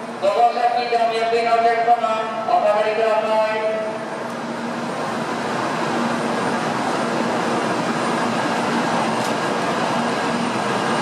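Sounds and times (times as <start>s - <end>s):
train rushing past: 0.0s - 11.0s.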